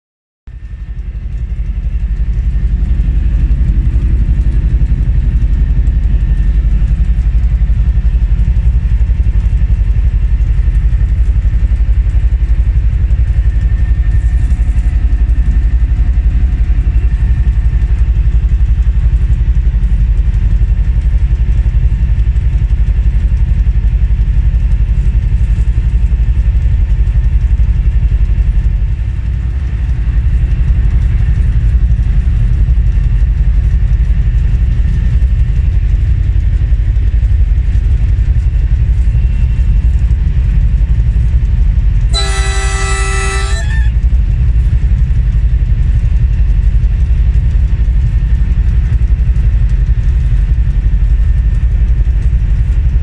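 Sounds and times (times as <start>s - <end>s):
diesel locomotive engine running: 0.5s - 53.0s.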